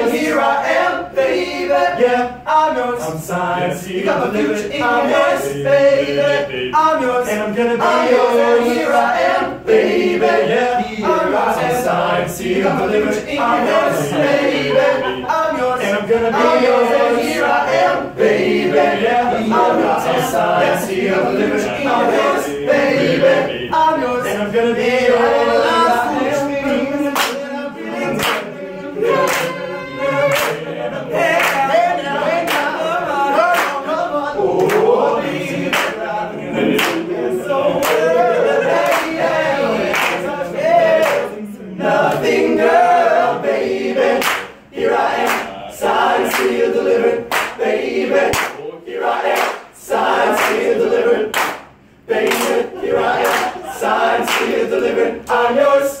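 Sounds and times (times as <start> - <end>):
male group singing in harmony: 0.0 - 56.0.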